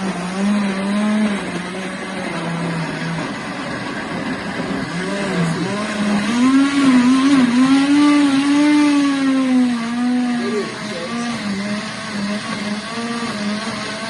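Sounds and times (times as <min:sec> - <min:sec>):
blender motor running: 0:00.0 - 0:14.0.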